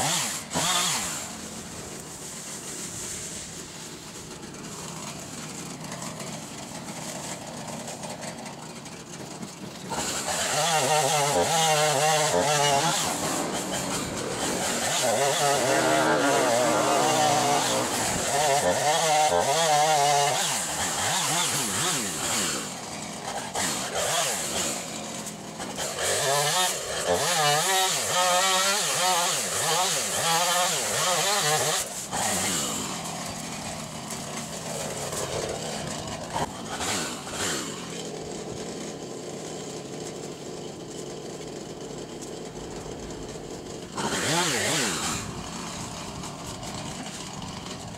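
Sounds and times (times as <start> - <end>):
chainsaw cutting limbs: 0.0 - 3.8, 4.4 - 47.9.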